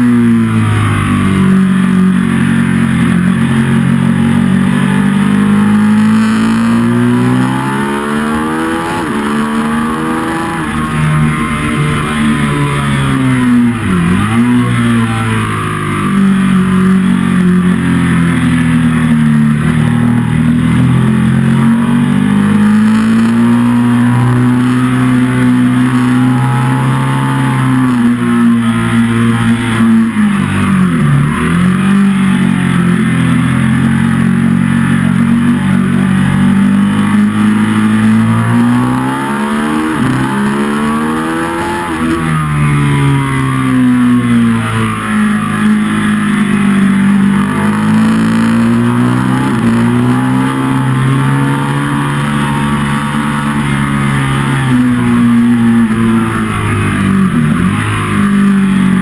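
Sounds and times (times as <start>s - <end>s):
motorcycle engine accelerating and braking: 0.0s - 59.0s.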